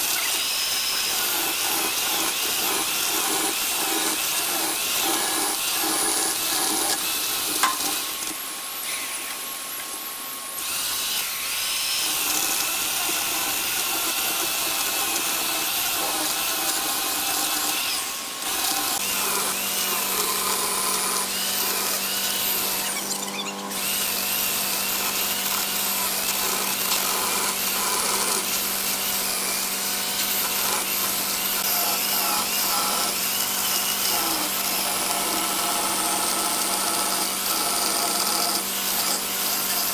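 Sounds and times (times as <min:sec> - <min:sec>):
electric chainsaw cutting wood: 0:00.0 - 0:09.5, 0:10.4 - 0:39.9.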